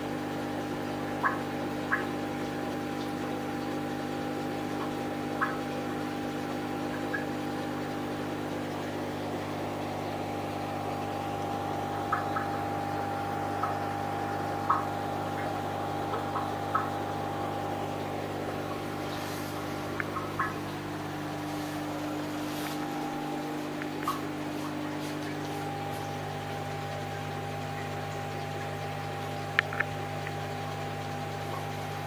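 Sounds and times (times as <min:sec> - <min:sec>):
aquarium pump humming: 0:00.0 - 0:32.0.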